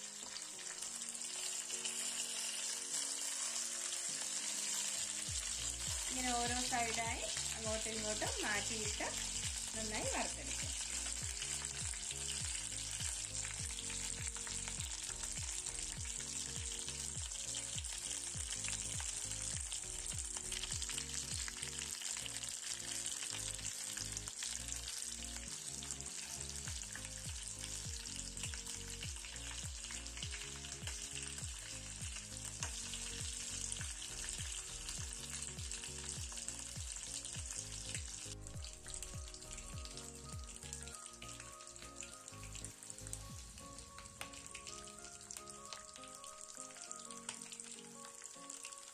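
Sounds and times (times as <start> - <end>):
chicken sizzling in hot oil: 0.0 - 48.9.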